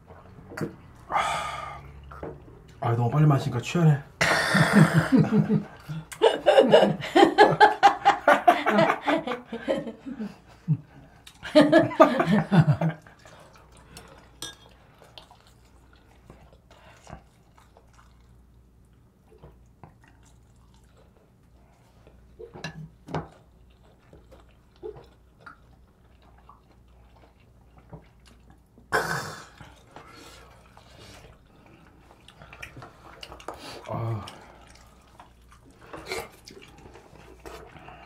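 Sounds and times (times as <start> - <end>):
soft eating noises: 0.0 - 7.8, 9.6 - 38.0.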